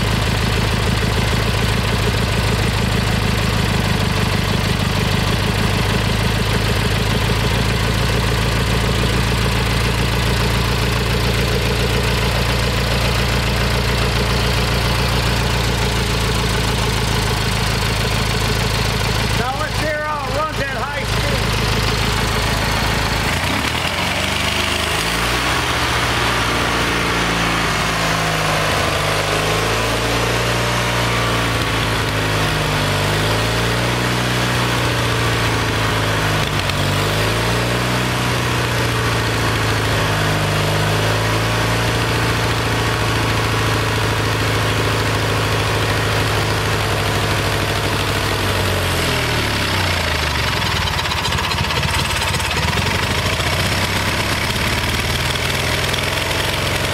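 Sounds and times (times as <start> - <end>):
small engine running unevenly: 0.0 - 56.9.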